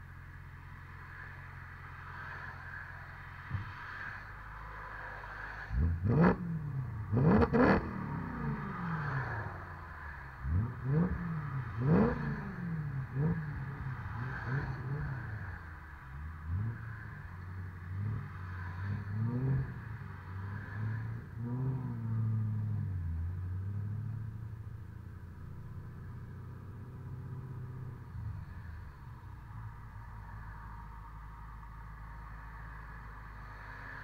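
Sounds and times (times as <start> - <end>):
car engine low note pulling away: 5.7 - 33.9
car engine revving: 5.7 - 34.0.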